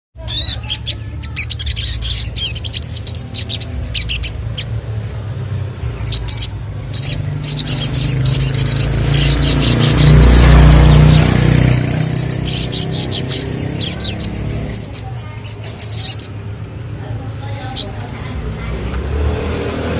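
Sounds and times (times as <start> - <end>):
songbird chirping: 0.2 - 19.9.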